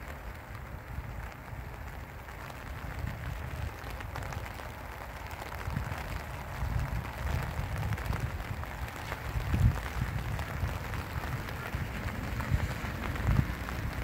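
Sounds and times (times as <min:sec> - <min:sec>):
rain pattering on pond: 0:00.0 - 0:14.0.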